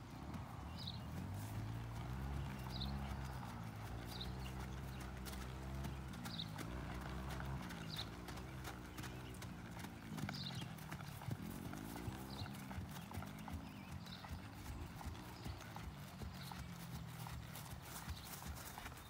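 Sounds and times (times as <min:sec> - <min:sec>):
horse hoofbeats on grass: 0:00.0 - 0:19.0.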